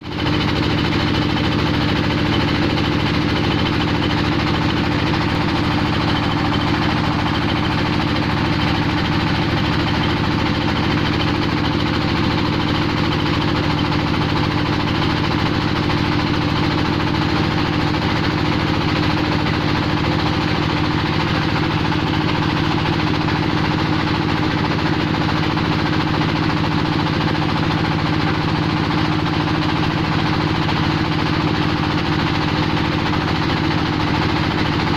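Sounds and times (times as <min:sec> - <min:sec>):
clay-processing machine drone: 0:00.0 - 0:34.9.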